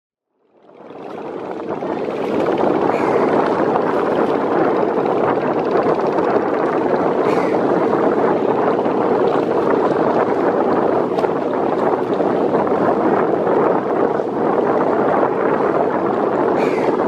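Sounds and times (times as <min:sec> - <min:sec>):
boat engine: 0:00.4 - 0:17.0
water noise: 0:00.4 - 0:17.0.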